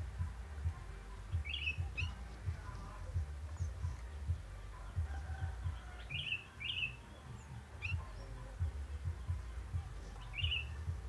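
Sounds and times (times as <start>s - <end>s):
low thumping noise: 0.0s - 6.2s, 7.8s - 11.0s
bird chirps: 0.2s - 11.0s.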